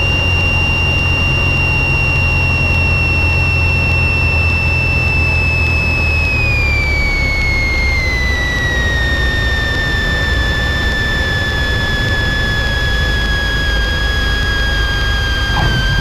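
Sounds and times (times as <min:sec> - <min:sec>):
aircraft engine drone: 0:00.0 - 0:16.0
high whine falling in pitch: 0:00.0 - 0:16.0.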